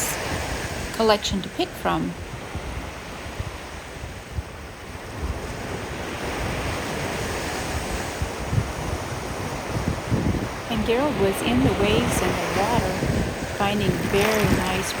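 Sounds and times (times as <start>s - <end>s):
ocean surf washing on beach: 0.0s - 15.0s
wind buffeting microphone: 0.0s - 15.0s.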